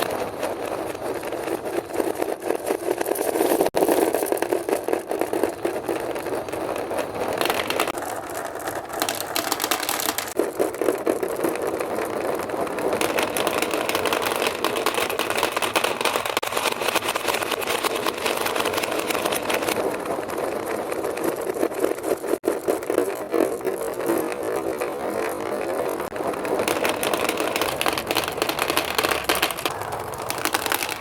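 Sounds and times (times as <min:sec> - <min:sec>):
marbles rolling and clattering: 0:00.0 - 0:31.0.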